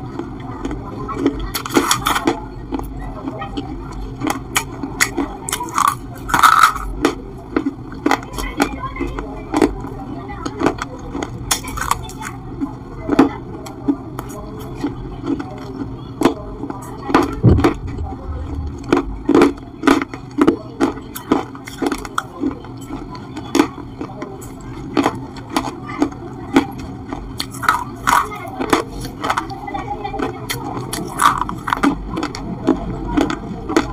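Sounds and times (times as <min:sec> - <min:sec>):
dry crunching while chewing: 0:00.0 - 0:33.9.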